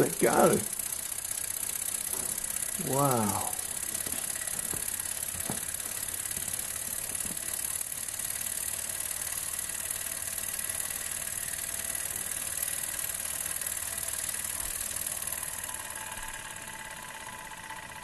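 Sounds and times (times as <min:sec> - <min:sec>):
model steam engine beating: 0:00.0 - 0:18.0.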